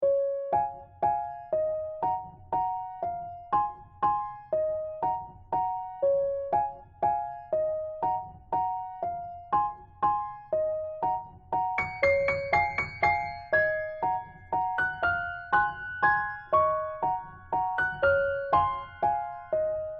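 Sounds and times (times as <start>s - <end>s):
gentle electric piano melody: 0.0s - 19.9s.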